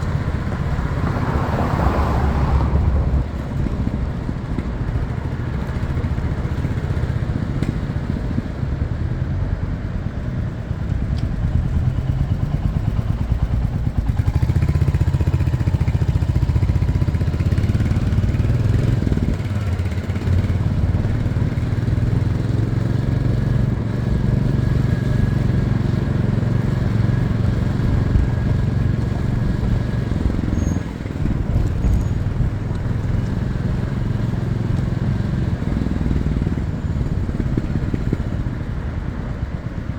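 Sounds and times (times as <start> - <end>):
motorcycle engine running: 2.7 - 39.9.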